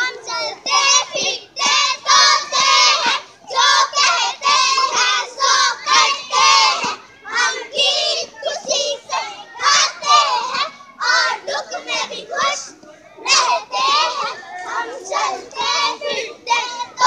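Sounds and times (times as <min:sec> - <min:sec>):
girls chanting in unison: 0:00.0 - 0:17.0.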